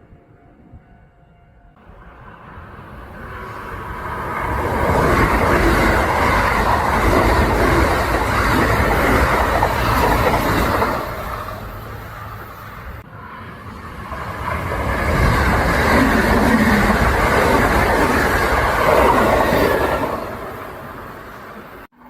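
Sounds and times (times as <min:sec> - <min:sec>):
electric train rumbling past: 0:00.0 - 0:22.0.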